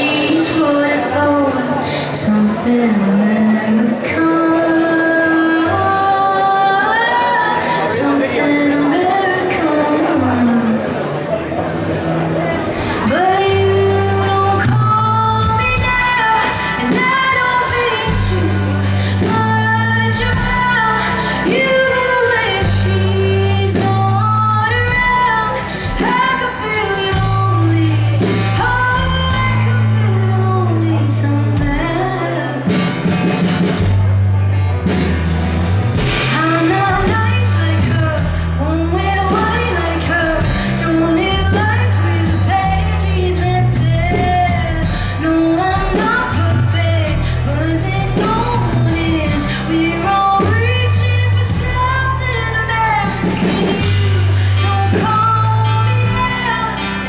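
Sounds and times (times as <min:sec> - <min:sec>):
woman singing: 0:00.0 - 0:11.0, 0:12.8 - 0:33.2, 0:36.0 - 0:57.0
bass guitar low notes: 0:10.3 - 0:57.0.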